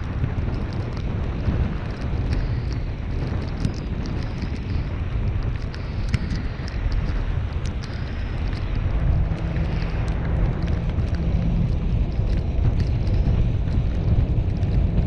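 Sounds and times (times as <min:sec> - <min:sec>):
road and engine rumble: 0:00.0 - 0:15.0
wind noise on microphone: 0:00.0 - 0:15.0
faint clicks: 0:00.3 - 0:15.0.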